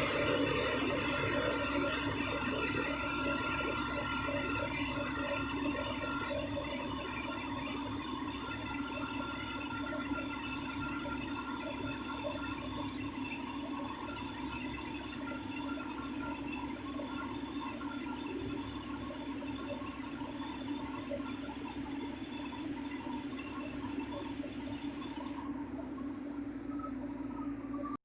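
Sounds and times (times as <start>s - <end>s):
ship machinery drone: 0.0s - 28.0s.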